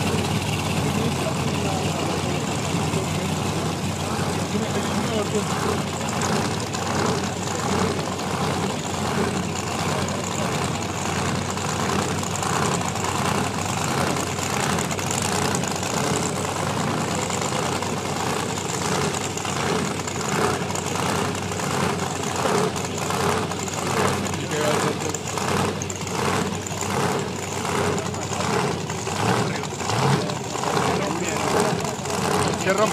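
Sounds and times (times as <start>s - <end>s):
race car engines idling: 0.0s - 32.9s.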